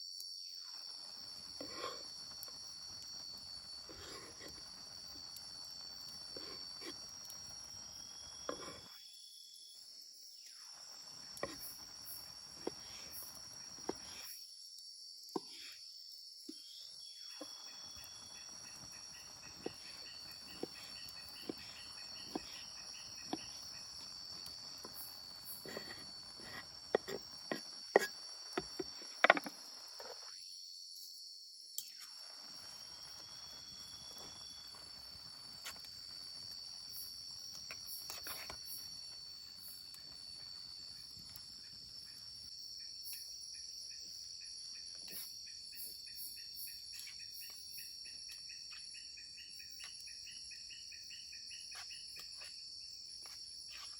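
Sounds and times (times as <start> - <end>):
insects droning: 0.0 - 53.9
pulsing insect chirp: 0.0 - 53.9.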